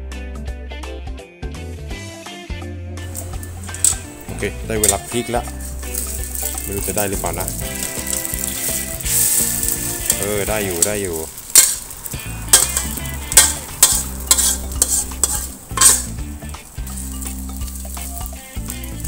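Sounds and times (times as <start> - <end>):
metal spatula scraping a wok: 3.1 - 18.6
omelette sizzling in oil: 3.1 - 19.0.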